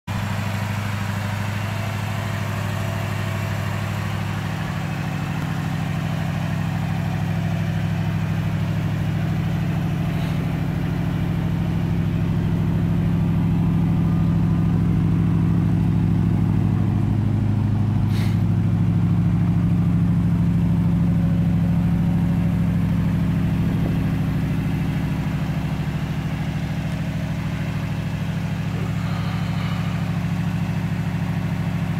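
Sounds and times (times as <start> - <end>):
car engine idling: 0.1 - 31.9.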